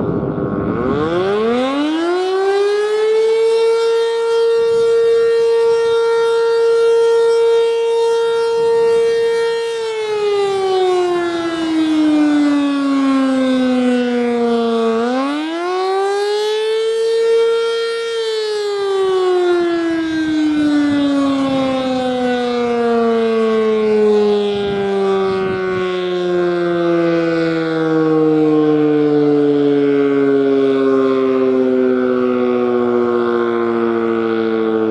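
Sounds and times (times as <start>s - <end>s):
outdoor warning siren: 0.0s - 34.9s.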